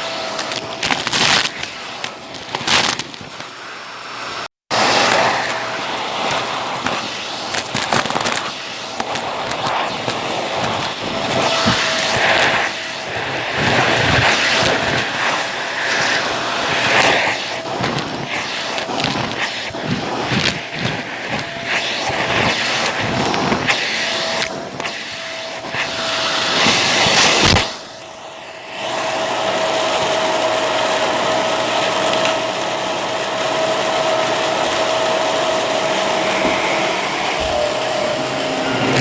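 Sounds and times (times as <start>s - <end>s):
vacuum cleaner motor hum: 0.0s - 39.0s.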